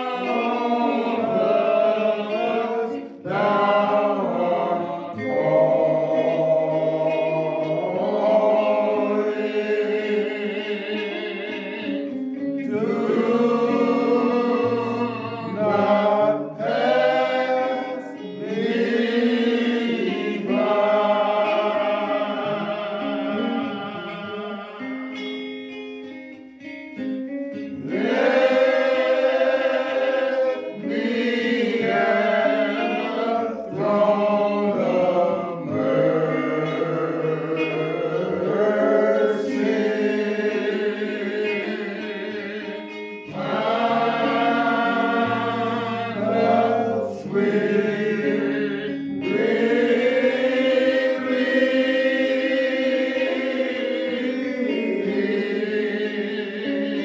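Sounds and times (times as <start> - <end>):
choir singing long notes: 0.0 - 57.0.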